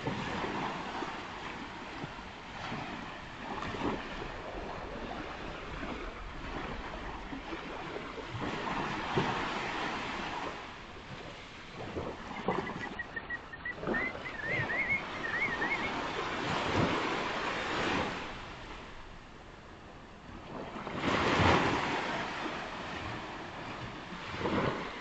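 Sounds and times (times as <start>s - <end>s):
ocean surf breaking on beach: 0.0s - 25.0s
wind buffeting microphone: 0.0s - 25.0s.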